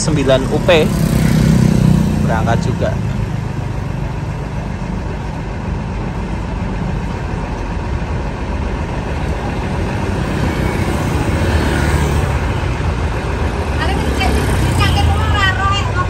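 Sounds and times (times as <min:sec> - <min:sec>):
bus diesel engine at low revs: 0:00.0 - 0:16.0.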